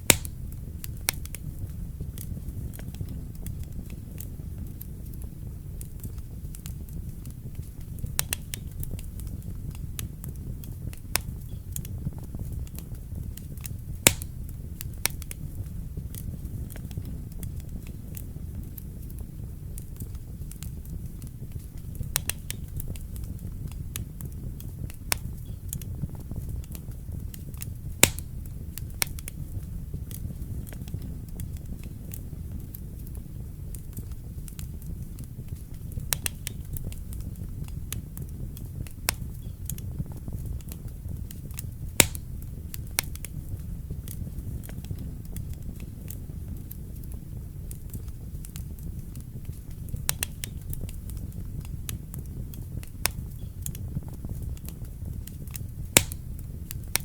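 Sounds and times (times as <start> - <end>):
fire rumble: 0.0 - 57.0
wood fire crackling and popping: 0.0 - 57.0.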